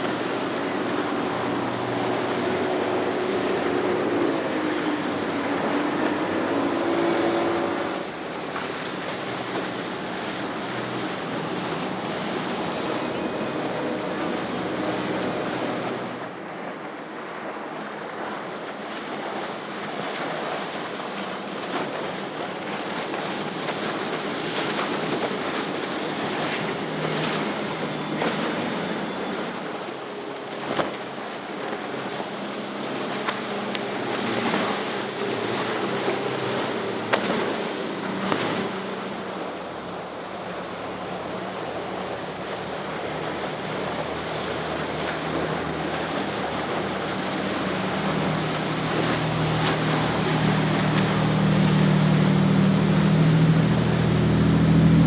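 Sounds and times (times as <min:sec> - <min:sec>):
waves washing: 0:00.0 - 0:16.7, 0:22.6 - 0:55.0
motorboat engines droning: 0:00.0 - 0:55.0.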